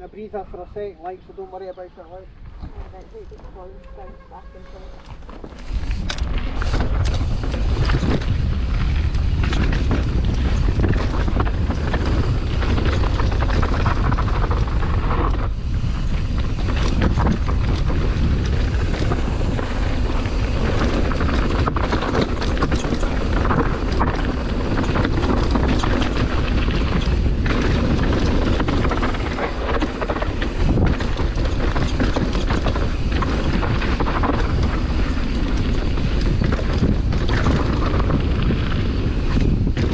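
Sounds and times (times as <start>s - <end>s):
wind buffeting microphone: 0.0s - 39.9s
bike rattling over rocks: 4.8s - 39.9s.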